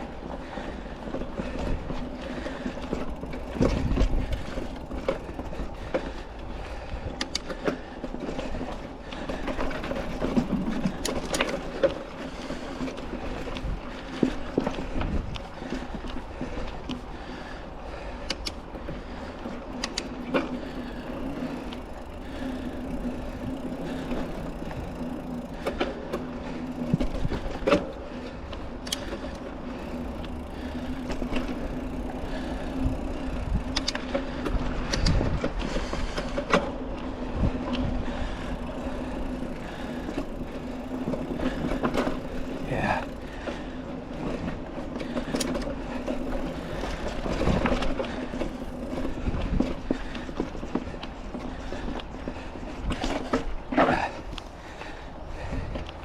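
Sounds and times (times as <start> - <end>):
bike knocks and rattles: 0.0 - 17.0, 18.3 - 54.1
bike tyre hum on dirt: 0.0 - 56.0.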